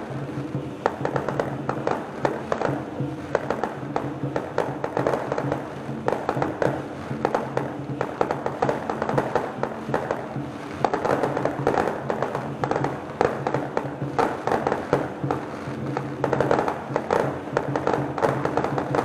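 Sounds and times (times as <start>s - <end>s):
fireworks crackling: 0.0s - 19.0s
music playing: 0.0s - 19.0s.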